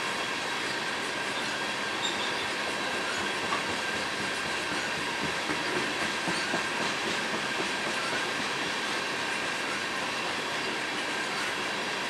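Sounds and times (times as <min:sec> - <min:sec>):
train wheels on track: 0:00.0 - 0:12.0.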